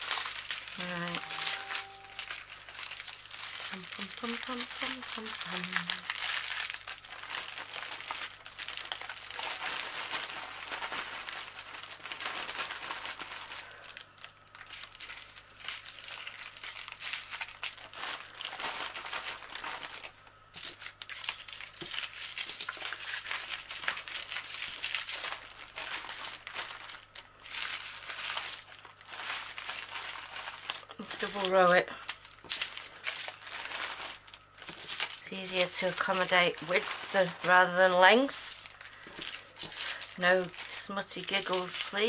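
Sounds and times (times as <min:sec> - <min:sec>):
plastic bags crinkling: 0:00.0 - 0:42.0.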